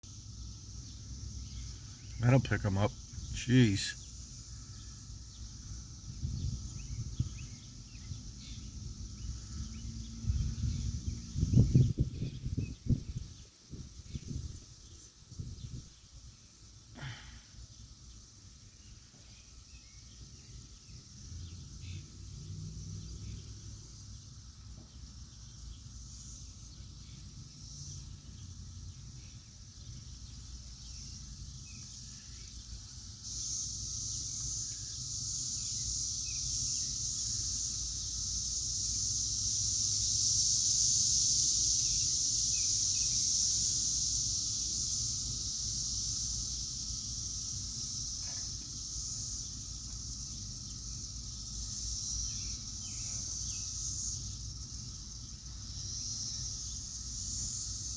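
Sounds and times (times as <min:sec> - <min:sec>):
cicadas buzzing: 0:00.0 - 0:57.9.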